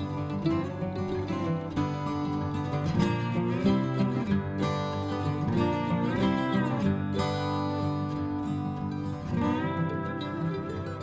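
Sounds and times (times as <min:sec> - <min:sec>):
acoustic guitar instrumental: 0:00.0 - 0:11.0.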